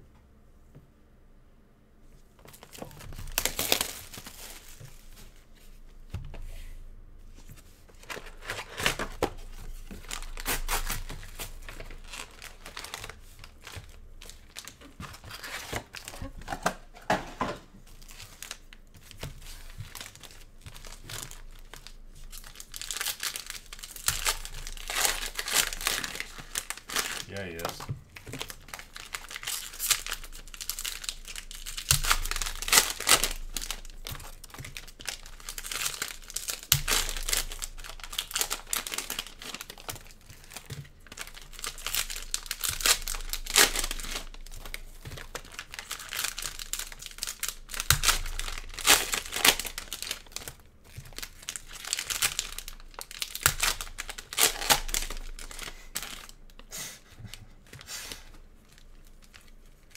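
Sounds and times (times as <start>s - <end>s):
plastic wrappers crinkling and tearing: 2.4s - 5.7s, 7.3s - 17.0s, 17.8s - 59.9s.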